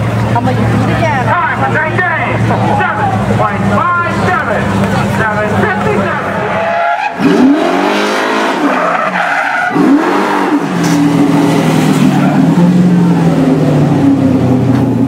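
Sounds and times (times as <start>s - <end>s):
fire engine revving: 0.0s - 15.0s.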